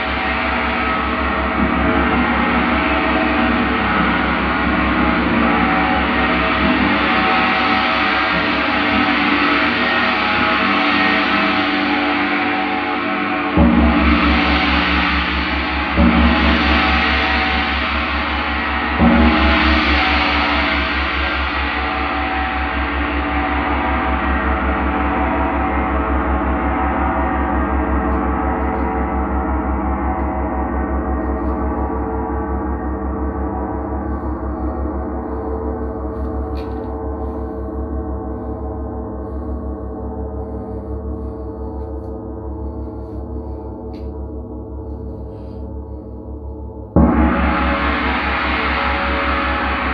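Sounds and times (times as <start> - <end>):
large gong ringing: 0.0 - 49.9.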